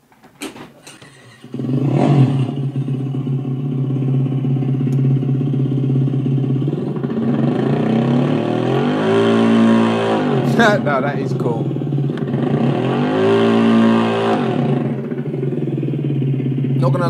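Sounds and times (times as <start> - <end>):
simulated moped engine through speaker: 1.1 - 17.0.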